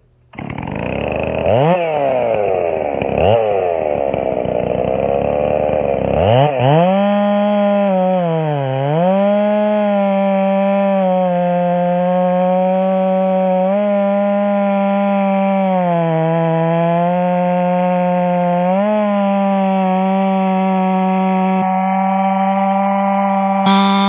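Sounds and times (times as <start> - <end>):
chainsaw cutting a log: 0.3 - 24.0.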